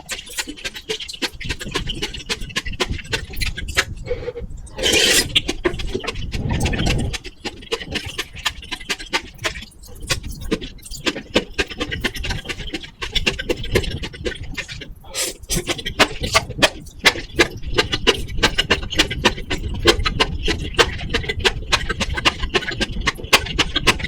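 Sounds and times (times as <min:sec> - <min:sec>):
chewing and wet mouth clicks: 0:00.0 - 0:24.0
small crackles: 0:00.0 - 0:24.0.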